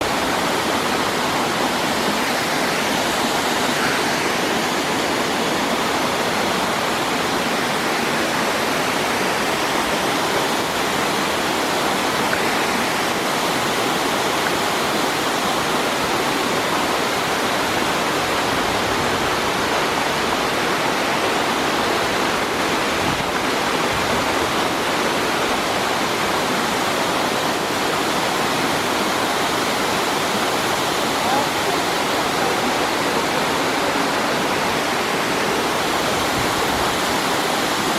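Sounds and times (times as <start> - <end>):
rushing water: 0.0 - 37.9.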